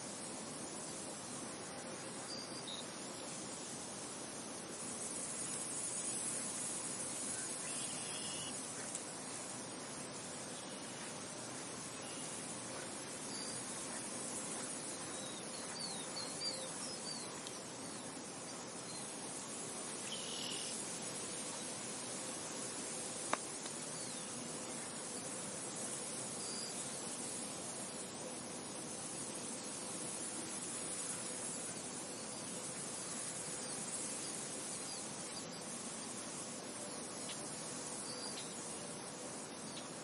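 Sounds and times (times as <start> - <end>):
insects: 0.0 - 40.0
steady hiss: 0.0 - 40.0.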